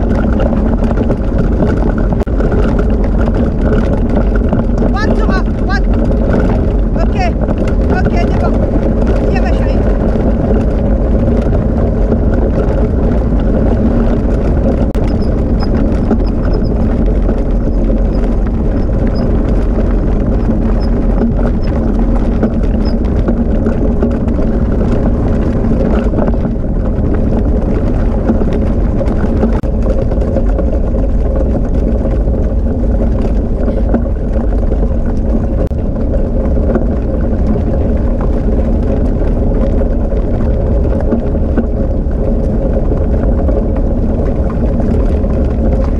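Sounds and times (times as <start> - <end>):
constant hum: 0.0 - 45.9
rig rolling on dirt track: 0.0 - 45.9.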